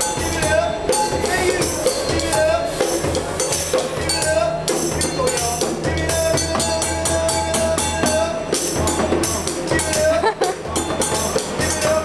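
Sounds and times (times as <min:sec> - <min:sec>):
djembe played by hand: 0:00.0 - 0:12.0.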